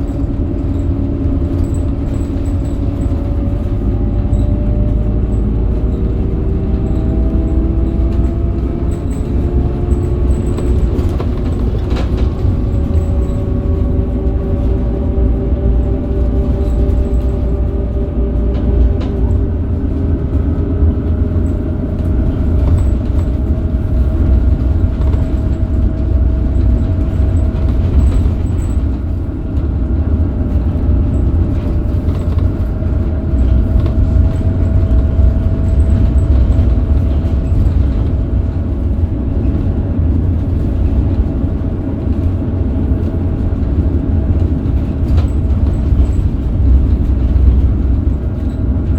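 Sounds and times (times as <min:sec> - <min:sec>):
bus diesel engine rumble: 0:00.0 - 0:48.9.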